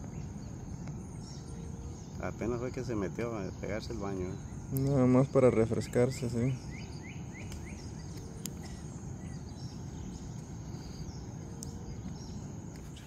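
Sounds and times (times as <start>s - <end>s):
thin insect whine: 0.0s - 13.0s.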